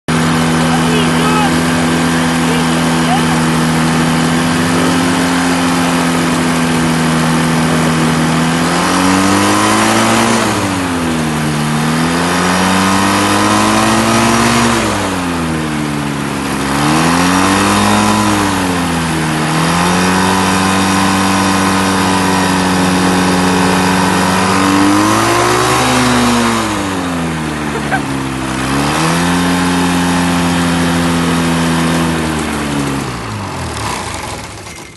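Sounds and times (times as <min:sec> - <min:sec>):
engine running: 0:00.1 - 0:34.9.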